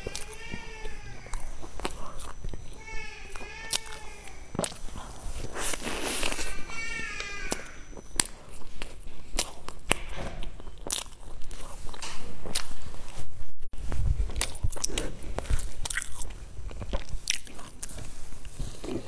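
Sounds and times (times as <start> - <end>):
person chewing bun: 0.0 - 13.3, 14.3 - 19.0.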